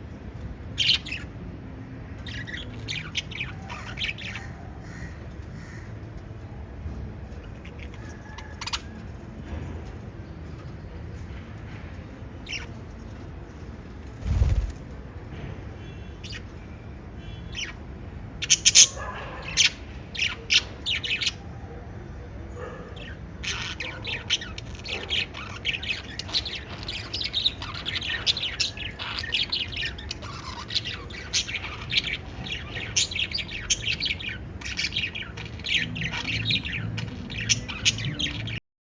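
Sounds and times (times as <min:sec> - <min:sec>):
lovebirds chirping and squawking: 0:00.0 - 0:15.0, 0:15.8 - 0:38.6.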